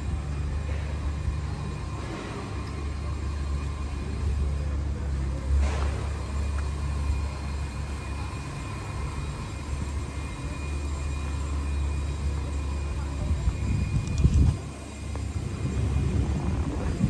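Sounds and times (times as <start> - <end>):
city street rumble: 0.0 - 17.0
faint steady tones: 0.0 - 17.0.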